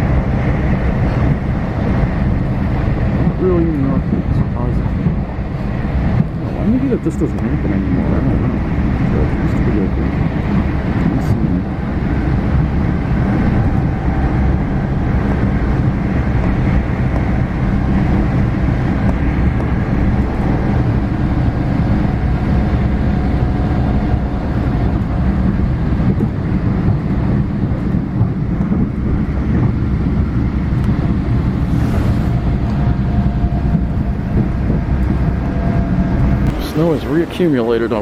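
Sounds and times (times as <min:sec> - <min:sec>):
low vehicle rumble: 0:00.0 - 0:38.0
wind buffeting microphone: 0:00.0 - 0:38.0.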